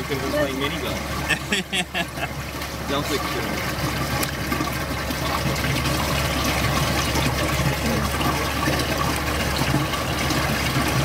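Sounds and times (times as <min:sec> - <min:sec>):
water flowing over sand: 0:00.0 - 0:11.0.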